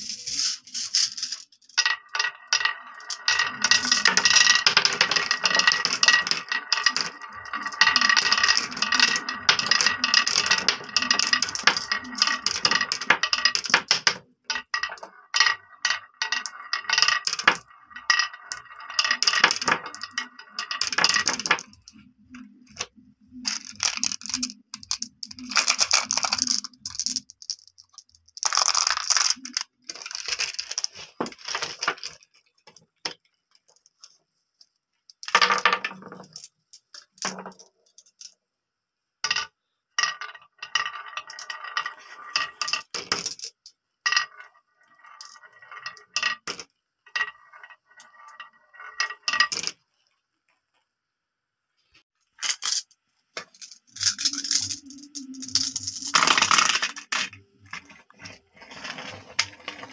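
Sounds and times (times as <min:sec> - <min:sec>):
marbles clinking together: 0:00.0 - 0:33.2, 0:35.1 - 0:38.4, 0:39.2 - 0:49.8, 0:52.4 - 0:59.9
marbles rolling on wooden track: 0:00.0 - 0:34.2, 0:35.1 - 0:38.4, 0:39.2 - 0:49.8, 0:52.3 - 0:59.9.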